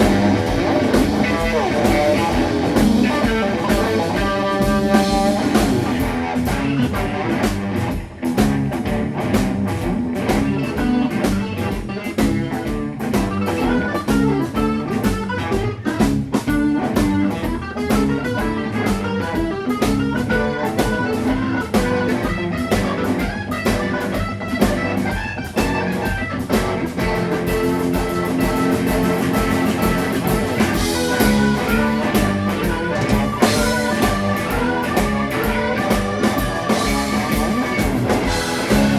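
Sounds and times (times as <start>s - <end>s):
blues-rock band playing: 0.0s - 38.9s
drum kit: 0.0s - 38.9s
electric guitar lead: 0.0s - 38.9s.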